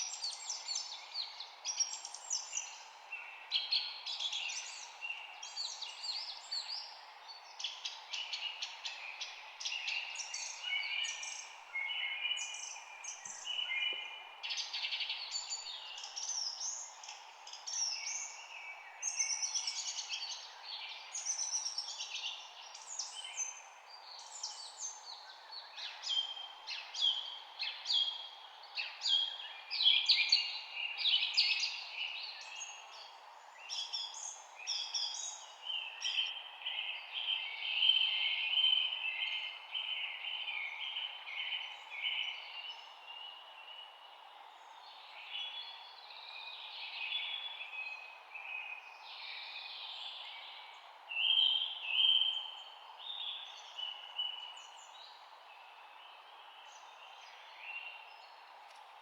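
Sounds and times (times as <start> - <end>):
songbirds chirping and singing: 0.0 - 59.0
steady background hiss: 0.0 - 59.0.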